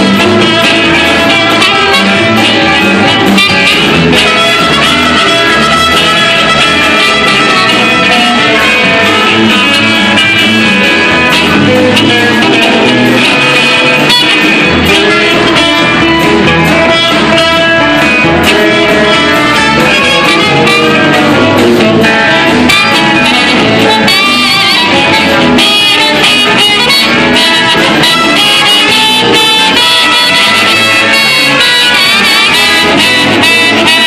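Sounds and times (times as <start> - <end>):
bass guitar: 0.0 - 34.0
drums: 0.0 - 34.0
electric guitar: 0.0 - 34.0
trumpet: 0.0 - 34.0.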